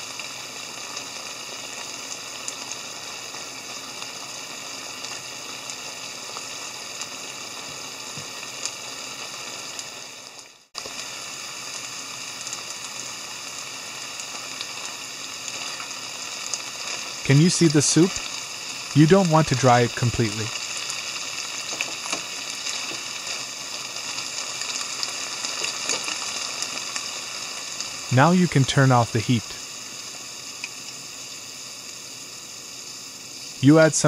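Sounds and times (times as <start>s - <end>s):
food bubbling and sizzling in a pan: 0.0s - 34.0s.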